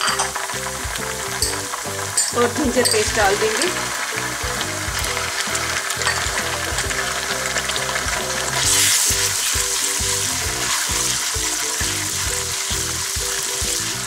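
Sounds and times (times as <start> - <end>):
background music: 0.0 - 14.0
onions sizzling in hot oil: 0.0 - 14.0.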